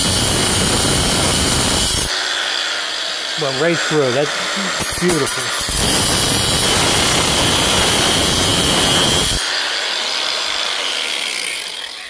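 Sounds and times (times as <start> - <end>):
cutting tool grinding steel: 0.0 - 12.0.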